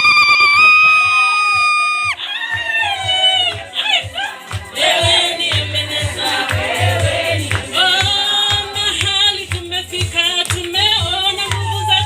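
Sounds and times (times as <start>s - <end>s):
band with steady bass beat: 0.0s - 12.0s
voices singing gospel: 1.6s - 12.0s.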